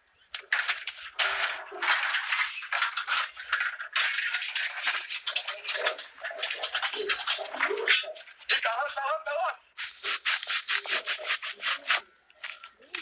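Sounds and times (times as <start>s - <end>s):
bicycles rattling and clicking: 0.0s - 8.7s, 9.8s - 13.0s.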